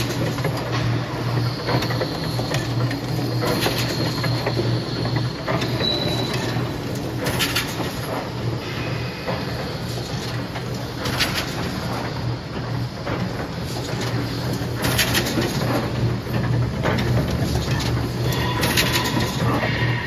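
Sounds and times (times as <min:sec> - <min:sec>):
rapid mechanical clatter: 0:00.0 - 0:08.6, 0:09.2 - 0:19.9.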